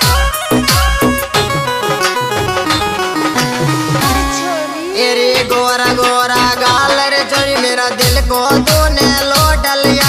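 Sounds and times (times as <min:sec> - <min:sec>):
folk dance song: 0:00.0 - 0:10.0
plucked string melody: 0:00.0 - 0:10.0.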